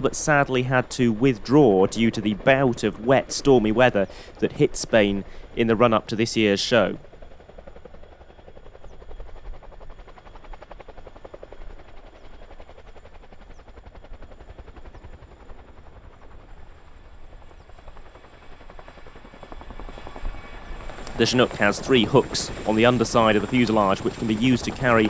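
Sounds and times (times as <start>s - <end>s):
helicopter rotor blades beating: 0.0s - 25.0s.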